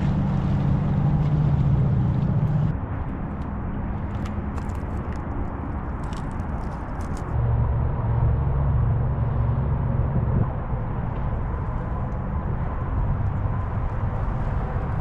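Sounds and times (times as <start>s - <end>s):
road noise: 0.0s - 15.0s
wind rumbling on microphone: 0.0s - 15.0s.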